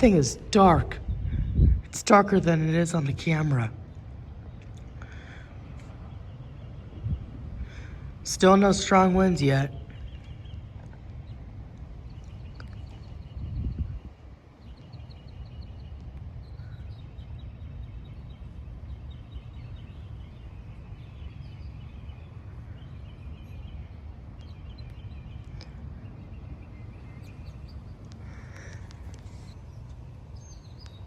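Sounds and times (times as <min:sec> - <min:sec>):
birds calling: 0:00.0 - 0:31.0
wind rumble on microphone: 0:00.0 - 0:31.0.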